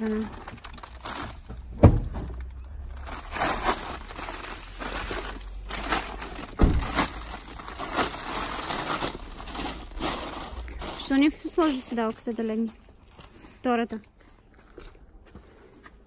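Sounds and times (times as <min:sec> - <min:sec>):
plastic crinkling and rustling: 0:00.0 - 0:13.4.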